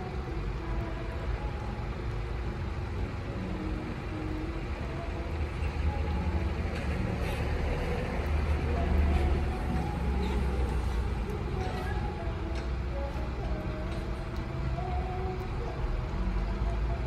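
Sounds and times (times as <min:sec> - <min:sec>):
low mechanical hum: 0:00.0 - 0:17.0
cat lapping food: 0:02.8 - 0:17.0.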